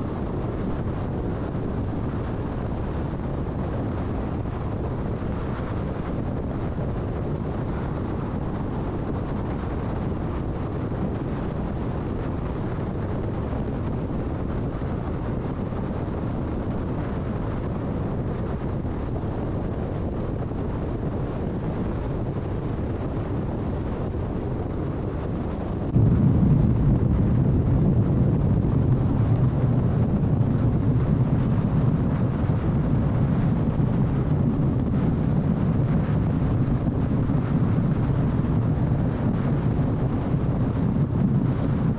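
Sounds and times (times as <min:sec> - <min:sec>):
car road and tyre rumble: 0:00.0 - 0:41.9.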